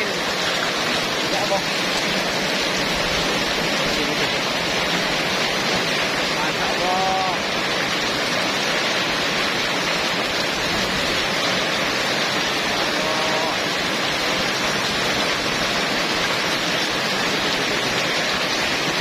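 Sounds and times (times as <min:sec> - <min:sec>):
heavy rain in strong wind: 0:00.0 - 0:19.0.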